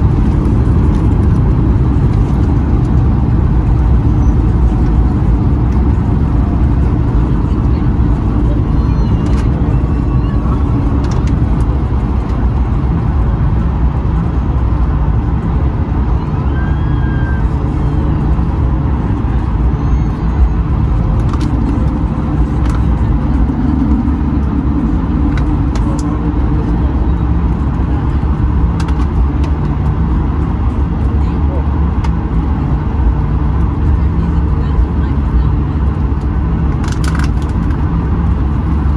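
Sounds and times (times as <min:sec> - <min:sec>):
aircraft engines rumbling: 0:00.0 - 0:38.9.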